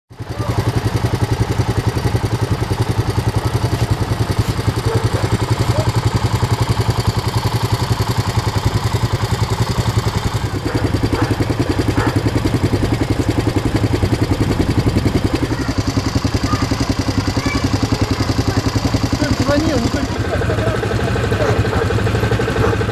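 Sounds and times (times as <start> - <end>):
atv engine idling: 0.1 - 22.9.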